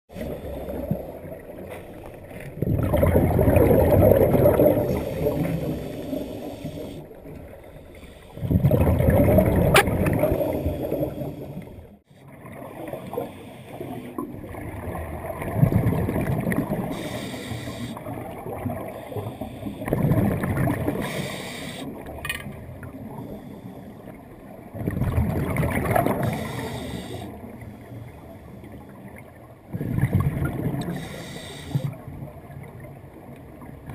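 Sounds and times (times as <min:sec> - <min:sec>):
quiet underwater rushing: 0:00.1 - 0:33.9
underwater exhaled air bubbling: 0:00.1 - 0:33.9.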